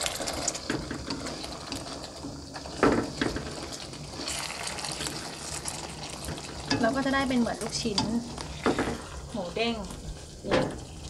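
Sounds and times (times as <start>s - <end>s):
spatula scraping pan: 0.0s - 11.0s.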